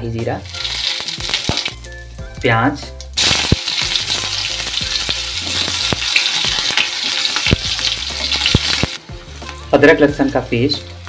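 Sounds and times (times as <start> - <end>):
onions sizzling in oil: 0.4 - 11.0.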